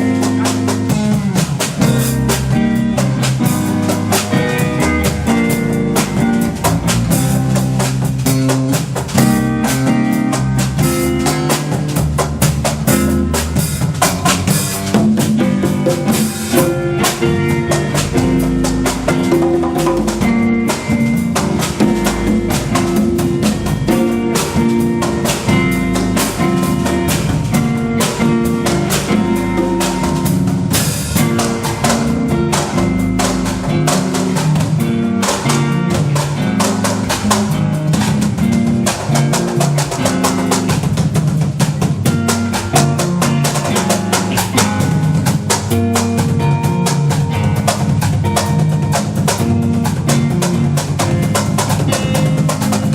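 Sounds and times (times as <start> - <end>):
drum kit steady beat: 0.0 - 52.9
guitar and bass: 0.0 - 52.9.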